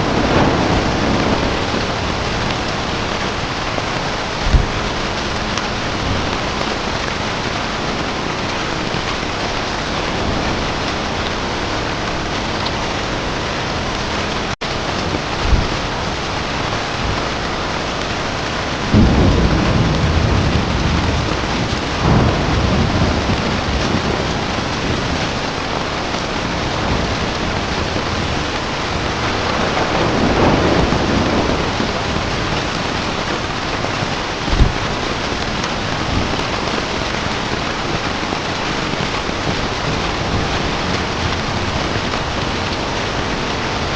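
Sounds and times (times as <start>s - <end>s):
heavy rain: 0.0s - 43.9s
thunder rolling: 0.0s - 43.9s.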